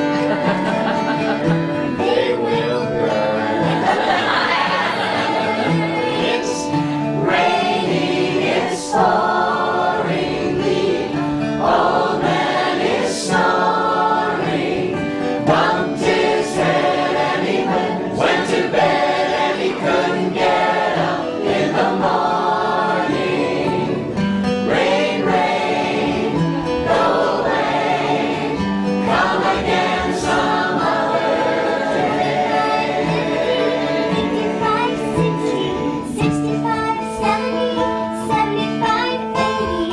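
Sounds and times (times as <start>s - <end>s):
group singing in harmony: 0.0s - 38.1s
strummed acoustic guitar: 0.0s - 39.9s.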